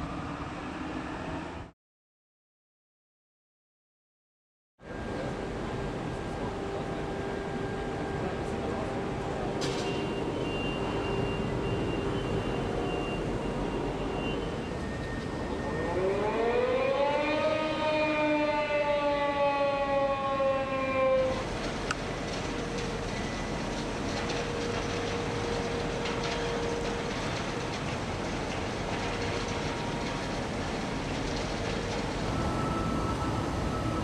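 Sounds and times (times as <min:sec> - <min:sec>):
steady machinery noise: 0:04.8 - 0:18.8, 0:19.4 - 0:34.0
pitched machine whine: 0:04.9 - 0:34.0.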